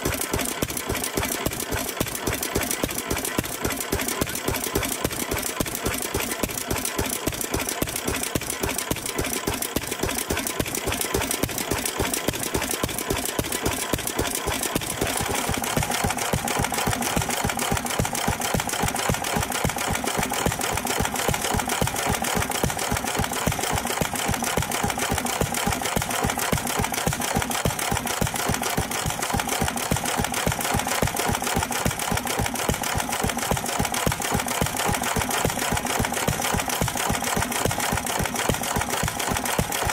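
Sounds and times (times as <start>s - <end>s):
stationary engine clattering: 0.0s - 39.9s.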